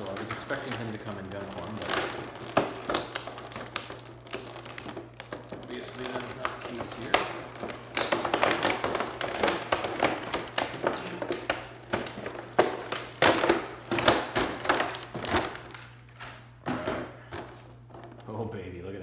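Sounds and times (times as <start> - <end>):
plastic trays crackling and snapping: 0.0 - 18.4.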